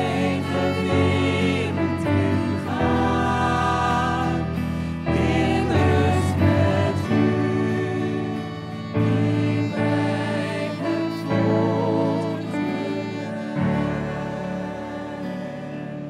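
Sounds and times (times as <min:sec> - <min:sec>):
acoustic guitar: 0:00.0 - 0:16.0
keyboard: 0:00.0 - 0:16.0
violin: 0:00.0 - 0:16.0
voices singing together: 0:00.0 - 0:16.0.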